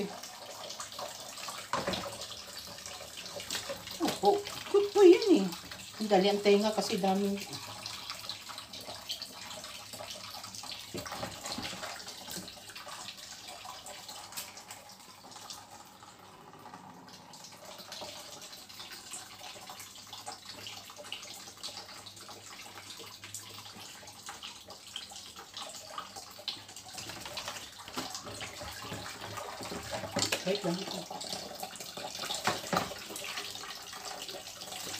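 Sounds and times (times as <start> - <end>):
water splashing in a steel sink: 0.0 - 34.9.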